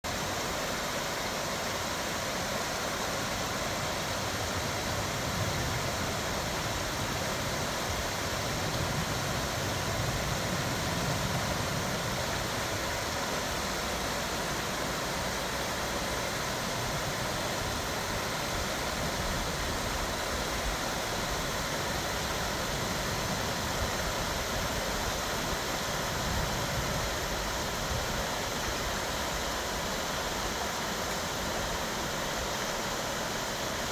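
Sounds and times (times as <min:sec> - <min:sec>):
stream rushing: 0:00.0 - 0:33.9.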